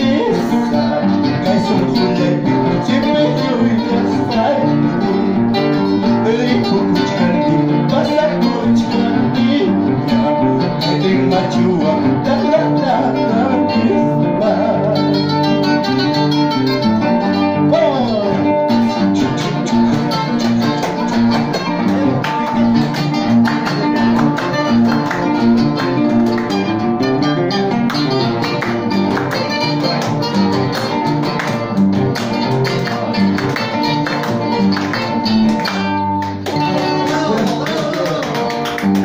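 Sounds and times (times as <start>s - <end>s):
acoustic guitars playing: 0.0s - 39.0s.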